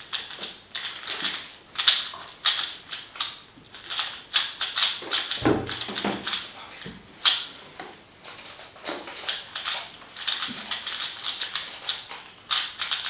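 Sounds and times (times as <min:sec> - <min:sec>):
speed cube clicking and clacking: 0:00.0 - 0:06.5, 0:07.2 - 0:07.5, 0:08.3 - 0:13.0.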